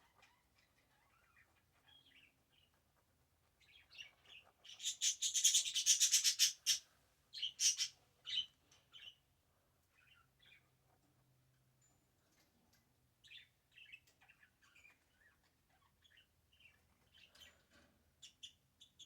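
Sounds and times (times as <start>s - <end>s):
small birds chirping: 0.0s - 11.1s, 11.8s - 19.0s.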